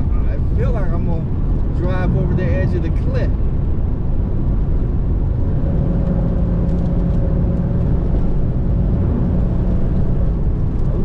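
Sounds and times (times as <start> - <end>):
car engine driving: 0.0 - 11.0.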